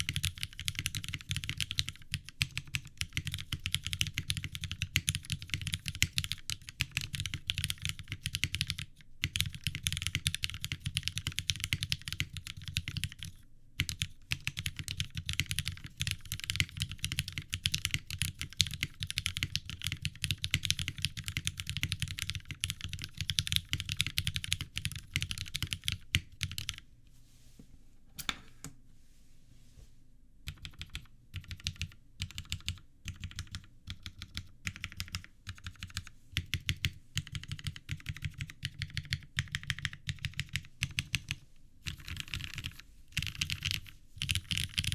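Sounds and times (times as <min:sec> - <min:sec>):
mechanical keyboard typing: 0:00.0 - 0:26.8, 0:30.5 - 0:44.9.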